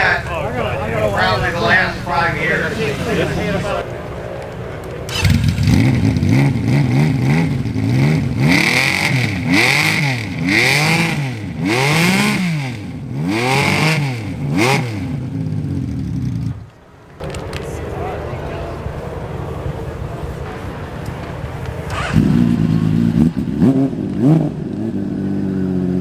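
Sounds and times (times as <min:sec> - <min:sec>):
motorcycle engine revving: 0:00.0 - 0:17.4, 0:19.2 - 0:26.0.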